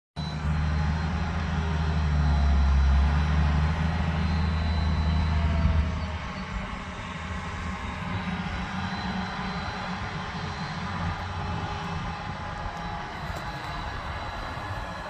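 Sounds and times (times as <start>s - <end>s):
tractor engine rumbling: 0.2s - 15.0s.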